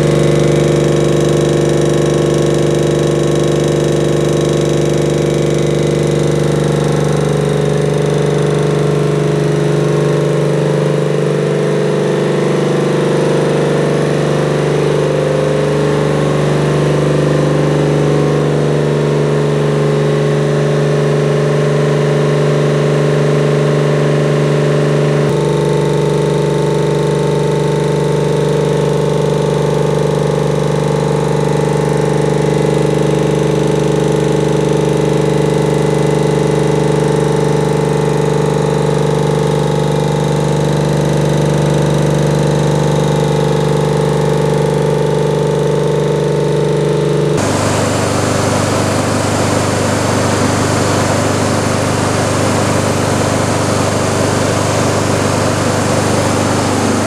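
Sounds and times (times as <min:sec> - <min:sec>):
air compressor running: 0:00.0 - 0:57.0.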